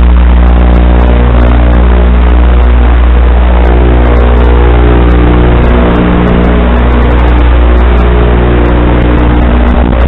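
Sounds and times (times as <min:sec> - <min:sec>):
small drone buzzing: 0:00.0 - 0:10.0.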